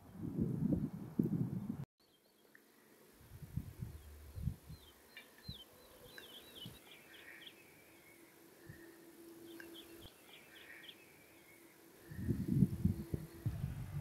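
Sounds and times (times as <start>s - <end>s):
faint bird chirps: 2.0s - 13.9s.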